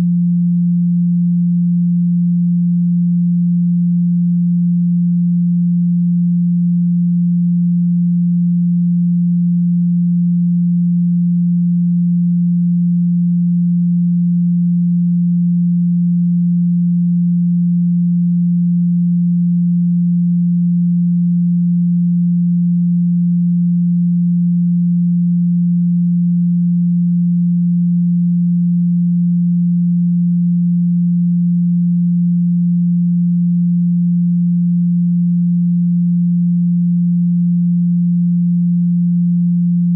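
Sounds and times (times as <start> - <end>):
low sine tone hum: 0.0 - 39.9.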